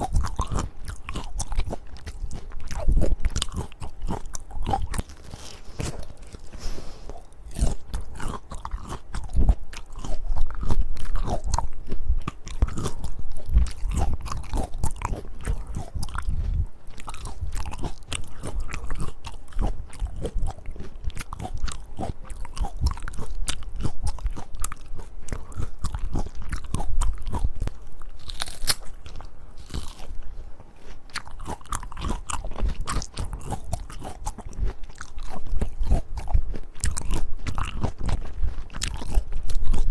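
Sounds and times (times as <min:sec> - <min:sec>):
person chewing peaches: 0:00.0 - 0:39.9.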